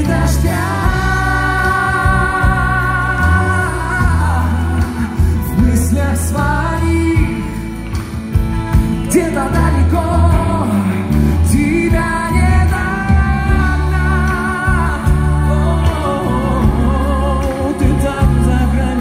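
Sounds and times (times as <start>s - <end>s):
man singing into microphone: 0.0s - 8.1s, 9.0s - 19.0s
amplified band: 0.0s - 19.0s.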